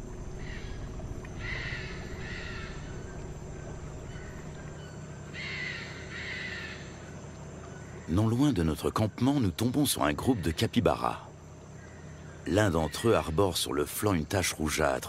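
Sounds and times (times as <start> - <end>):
bird calling: 0.0 - 8.9, 10.0 - 14.9
low background noise: 0.0 - 15.0.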